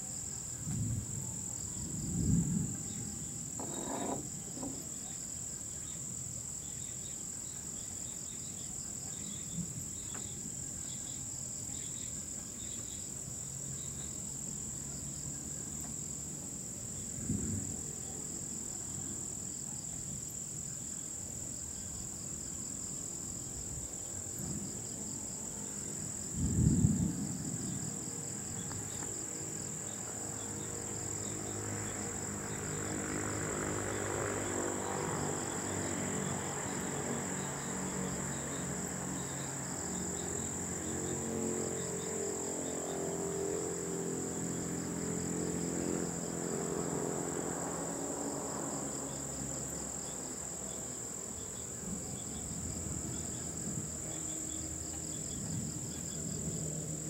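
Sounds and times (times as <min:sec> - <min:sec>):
high-pitched drone of night insects: 0:00.0 - 0:57.0
pulsing insect trill: 0:00.1 - 0:57.0.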